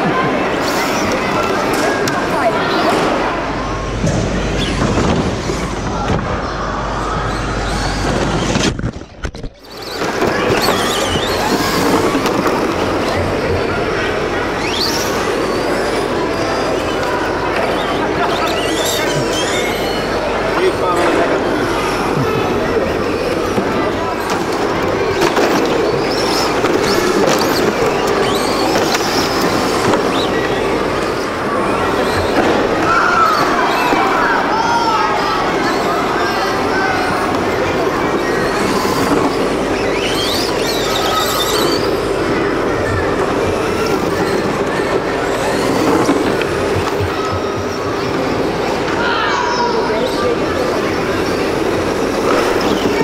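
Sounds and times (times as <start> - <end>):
rattle of wheels and plastic: 0.0 - 53.0
toy car motors whining: 9.6 - 53.0.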